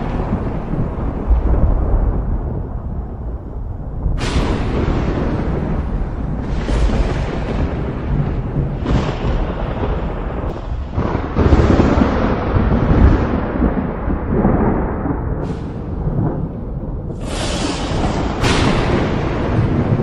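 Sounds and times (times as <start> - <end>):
sharp crackling thunderclap: 0.0 - 20.0
thunder rumbling: 0.0 - 20.0.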